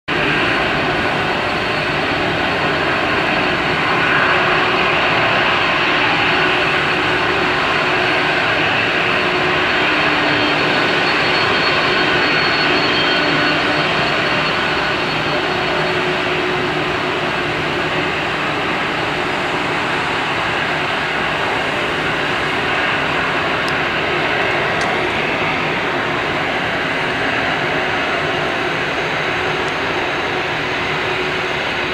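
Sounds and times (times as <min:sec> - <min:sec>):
faint high whine: 0:00.1 - 0:31.9
jet engines idling: 0:00.1 - 0:31.9.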